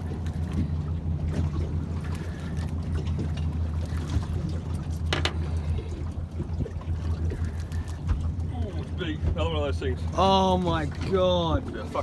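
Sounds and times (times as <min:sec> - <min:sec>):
boat motor humming: 0:00.0 - 0:12.0
water sloshing against hull: 0:00.0 - 0:12.0.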